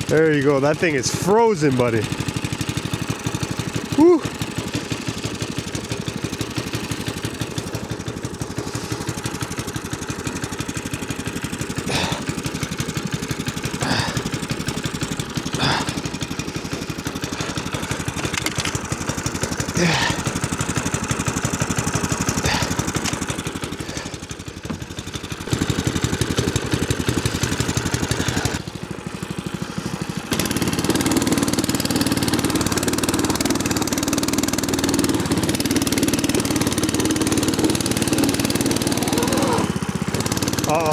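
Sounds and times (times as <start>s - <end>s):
snow machine engine running: 0.0s - 40.9s.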